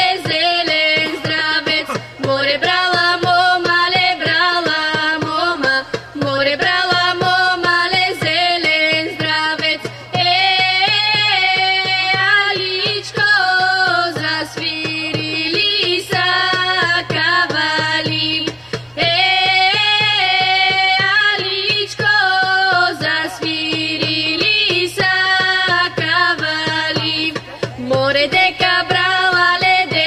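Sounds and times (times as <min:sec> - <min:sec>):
hand drum beat: 0:00.0 - 0:30.0
women singing folk song: 0:00.0 - 0:30.0.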